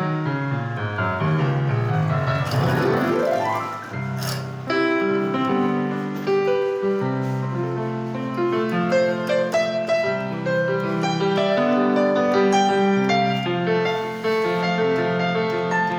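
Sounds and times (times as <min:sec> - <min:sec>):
keyboard playing piano chords: 0:00.0 - 0:15.9.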